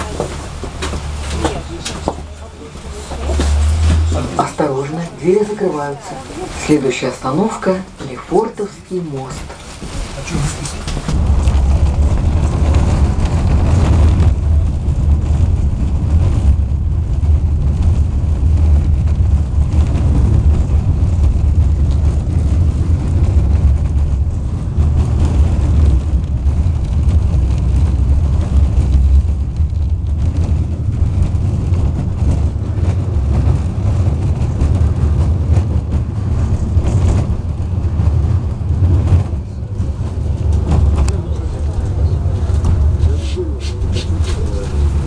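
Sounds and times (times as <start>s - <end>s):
tram rumbling: 0.0s - 45.0s.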